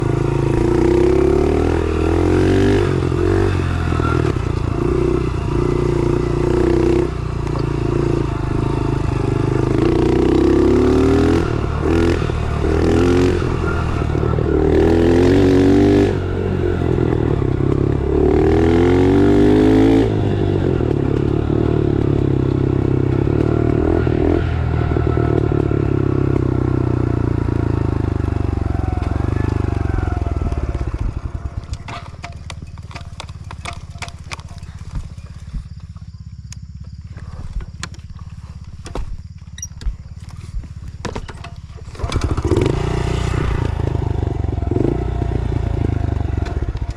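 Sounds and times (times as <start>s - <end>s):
small motorbike engine revving: 0.0s - 46.9s.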